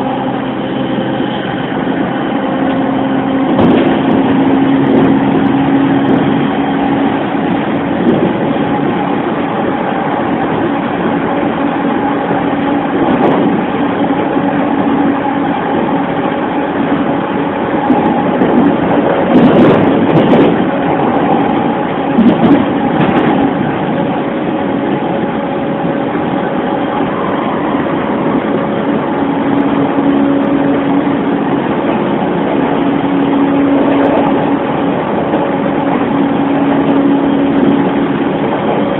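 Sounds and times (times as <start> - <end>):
traction motor hum: 0.0 - 38.9
wheels rumbling on rails: 0.0 - 38.9.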